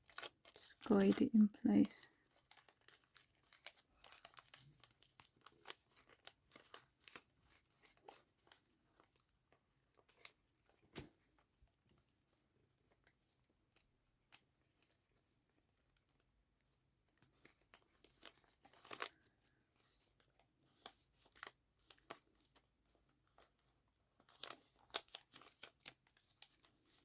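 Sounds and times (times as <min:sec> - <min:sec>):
paper rustling and crinkling: 0:00.0 - 0:16.2, 0:17.2 - 0:27.0.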